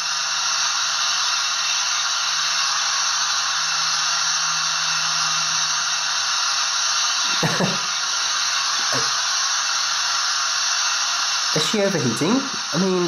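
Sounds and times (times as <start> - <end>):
steam hiss from small speaker: 0.0 - 13.0.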